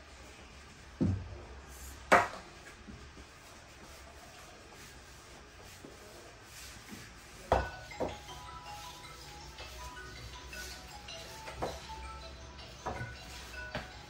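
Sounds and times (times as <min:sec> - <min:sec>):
rolling pin rolling dough: 0:00.9 - 0:14.0.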